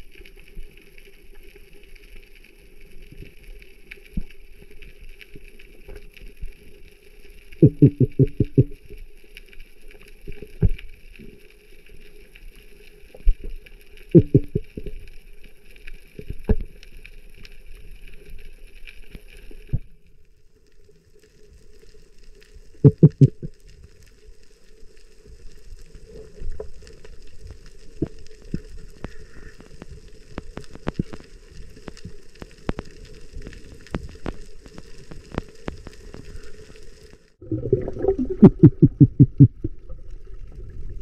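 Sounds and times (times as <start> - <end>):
faint fine crackle: 0.0 - 41.0
underwater low hum: 0.0 - 41.0.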